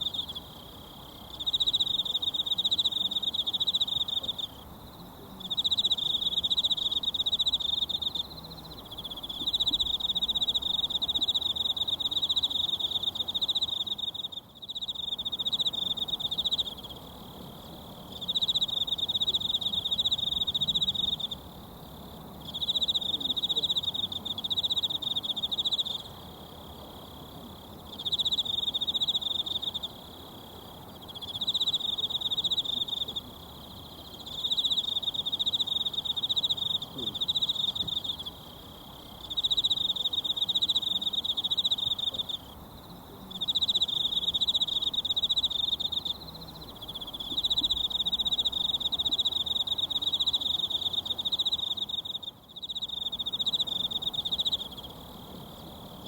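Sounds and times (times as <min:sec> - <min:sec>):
insect high-pitched trills: 0:00.0 - 0:21.6, 0:22.4 - 0:56.0.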